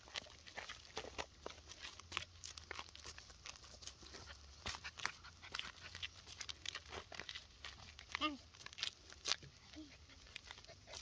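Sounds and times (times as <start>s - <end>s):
footsteps on gravel: 0.0s - 11.0s
paws crunching on gravel: 0.0s - 11.0s.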